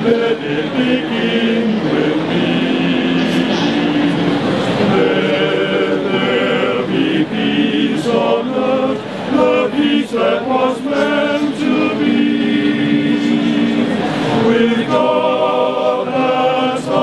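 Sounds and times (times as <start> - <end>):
male choir singing a cappella: 0.0 - 17.0.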